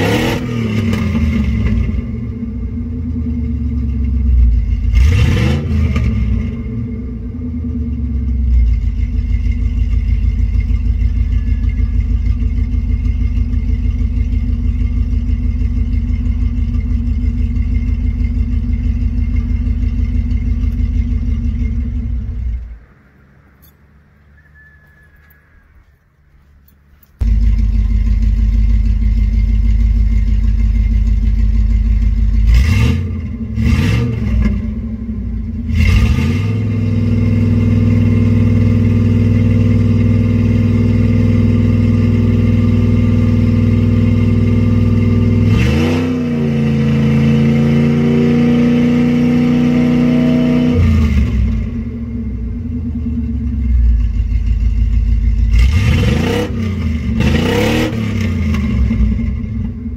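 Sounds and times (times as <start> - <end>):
misfiring truck engine revving: 0.0 - 22.8, 27.2 - 59.9.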